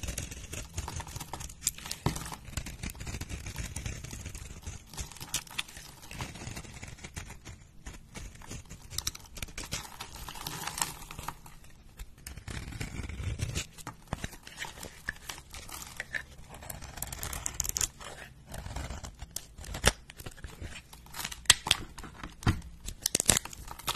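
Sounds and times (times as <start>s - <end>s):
powdery block crunching and crackling: 0.0s - 23.9s.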